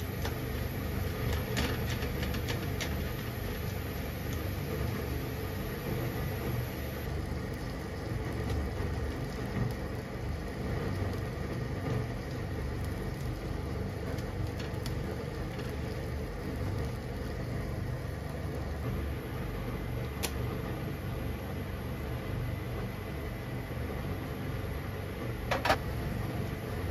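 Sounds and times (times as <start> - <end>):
water boiling in a pan: 0.0 - 26.9.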